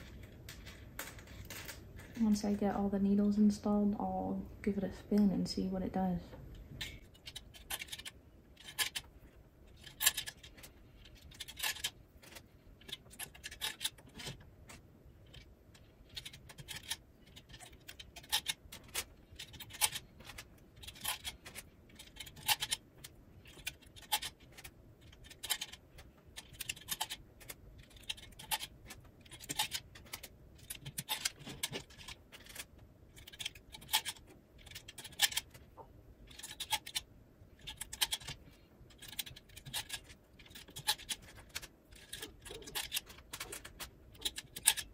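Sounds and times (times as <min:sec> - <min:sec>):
metal needles clicking into slots: 0:00.0 - 0:02.2, 0:06.5 - 0:44.9.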